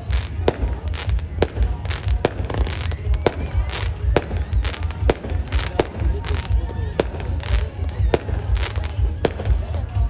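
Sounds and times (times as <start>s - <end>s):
fireworks bangs and cracks: 0.0s - 10.0s.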